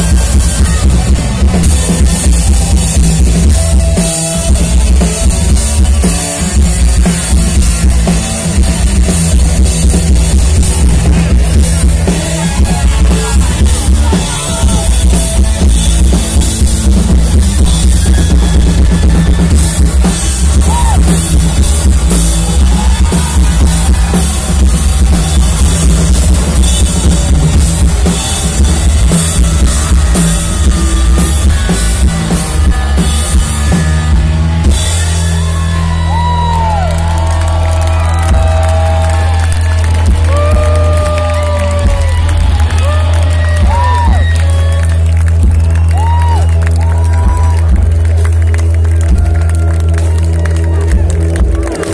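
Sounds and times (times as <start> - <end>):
bass guitar: 0.0 - 51.9
drum kit: 0.0 - 51.9
electric guitars: 0.0 - 51.9.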